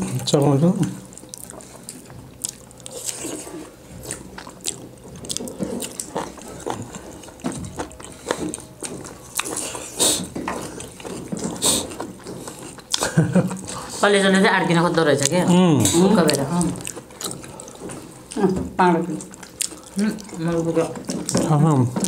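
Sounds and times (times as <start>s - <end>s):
people chewing and smacking: 0.0s - 22.0s.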